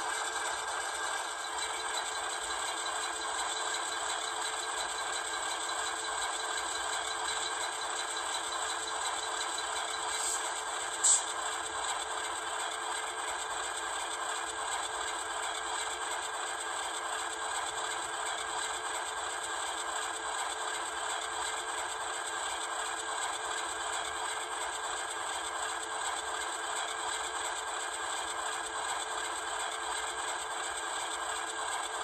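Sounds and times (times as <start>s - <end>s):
model locomotive diesel idle: 0.0s - 32.0s.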